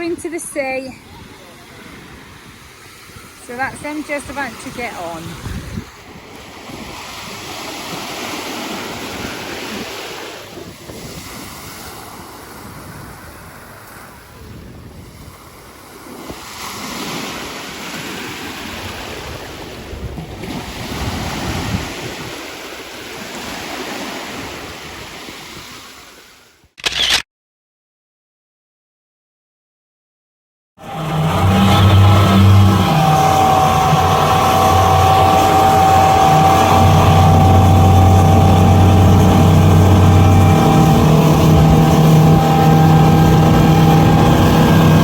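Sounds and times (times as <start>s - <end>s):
wind on microphone: 0.0s - 26.0s, 30.8s - 45.0s
sea surf: 0.0s - 26.6s, 30.8s - 45.0s.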